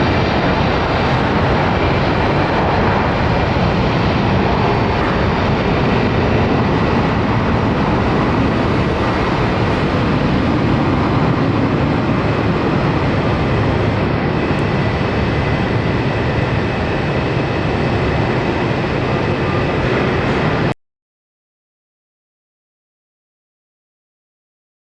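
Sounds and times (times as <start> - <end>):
jet airliner engines running: 0.0 - 20.8.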